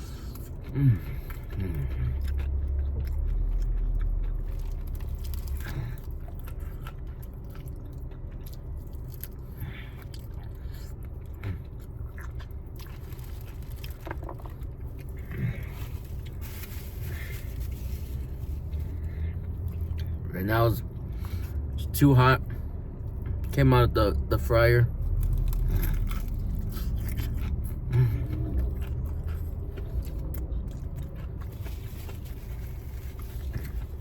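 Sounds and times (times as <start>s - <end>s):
person chewing fried chicken: 0.0s - 21.8s, 22.4s - 23.6s, 24.9s - 34.0s
low rumble: 0.0s - 34.0s.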